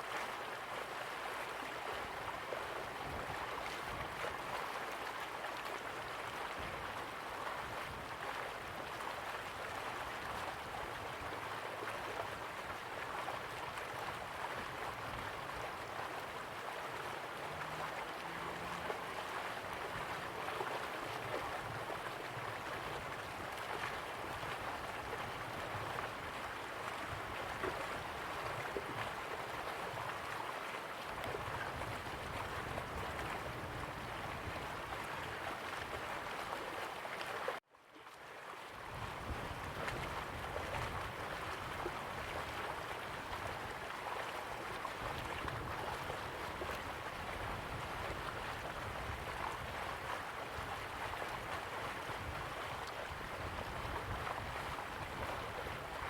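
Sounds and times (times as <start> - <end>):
river water rushing: 0.0 - 37.6, 38.2 - 56.0.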